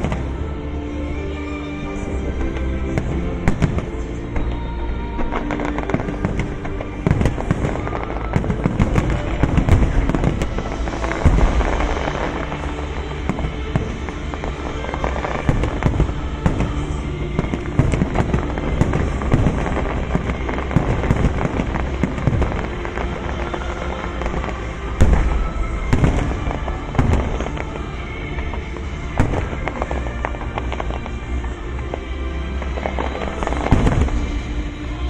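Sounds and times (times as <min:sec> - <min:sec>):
background music: 0:00.0 - 0:35.0
fireworks bangs and crackling: 0:00.0 - 0:35.0.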